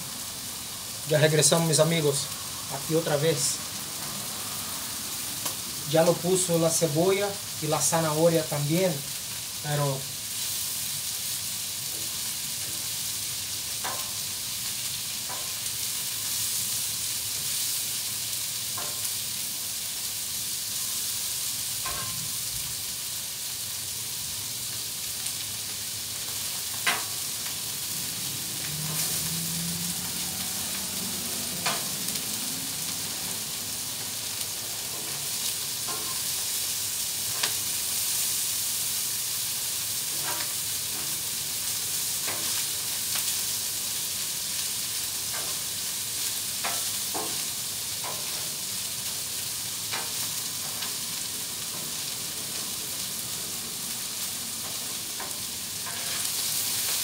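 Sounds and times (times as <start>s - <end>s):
food sizzling on griddle: 0.0s - 57.0s.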